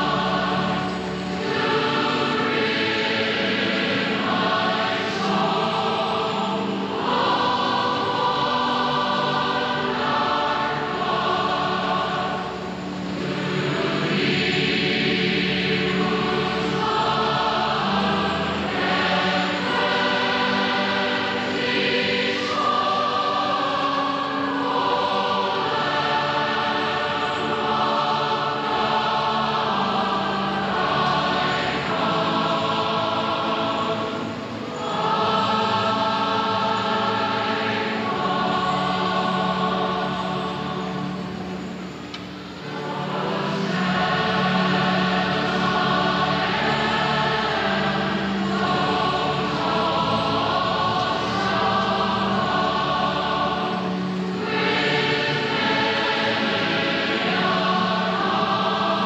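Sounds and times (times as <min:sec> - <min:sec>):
choir singing a slow hymn: 0:00.0 - 0:59.0.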